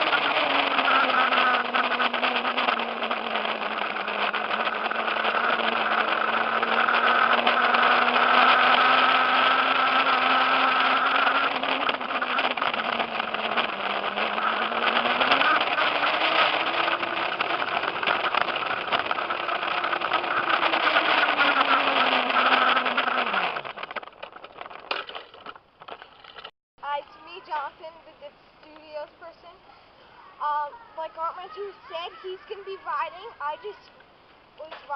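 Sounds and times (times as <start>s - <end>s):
electric motor whining: 0.0s - 29.4s.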